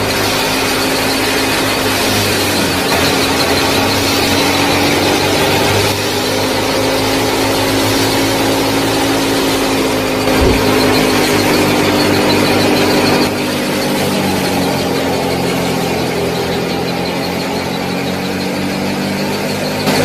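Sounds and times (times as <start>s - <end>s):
small motor whining: 0.0s - 20.0s.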